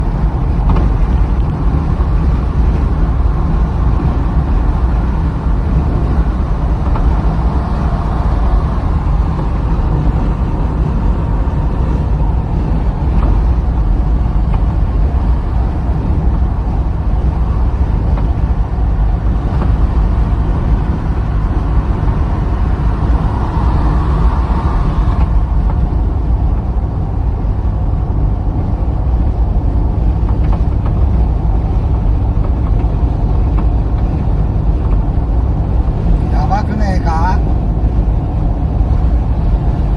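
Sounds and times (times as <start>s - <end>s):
car road and running rumble: 0.0s - 39.9s
mid-pitched car noise: 0.0s - 39.9s.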